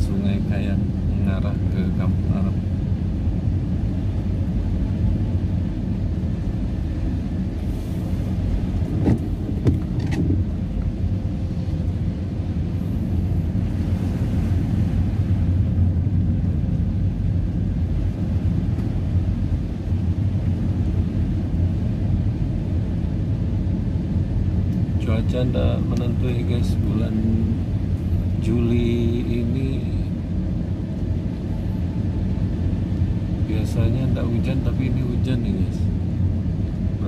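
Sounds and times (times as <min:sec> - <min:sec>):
car driving on wet road: 0:00.0 - 0:37.0.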